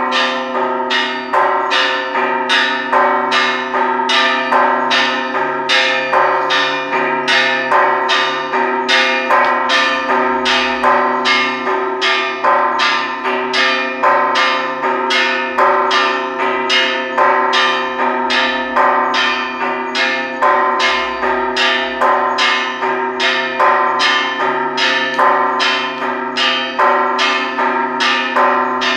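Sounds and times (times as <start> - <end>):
church bells ringing: 0.0 - 28.9.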